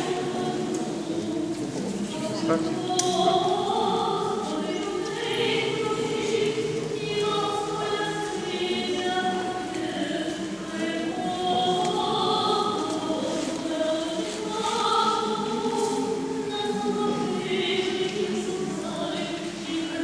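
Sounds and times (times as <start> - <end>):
choir chanting unaccompanied: 0.0 - 20.0.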